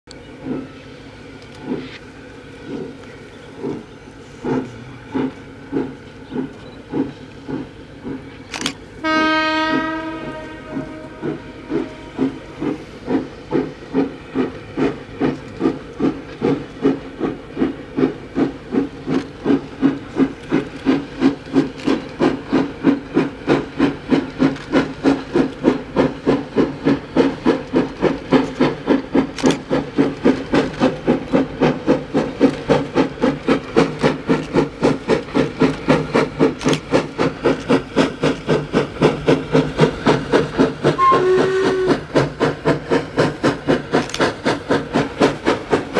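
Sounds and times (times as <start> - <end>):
steam locomotive exhaust beats: 0.1 - 45.9.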